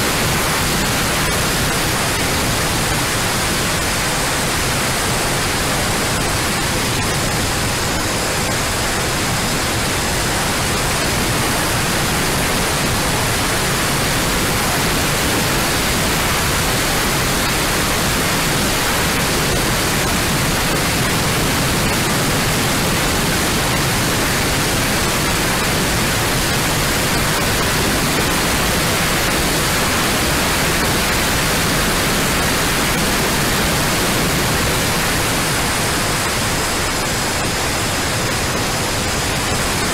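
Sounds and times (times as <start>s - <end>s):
electric ducted fans rushing: 0.0s - 39.9s.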